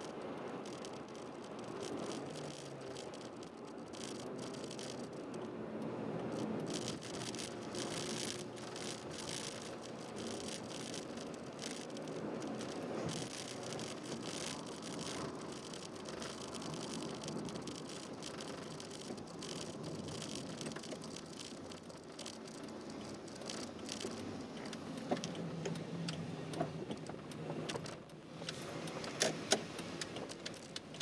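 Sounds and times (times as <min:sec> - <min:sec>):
car engine and road drone: 0:00.0 - 0:31.0.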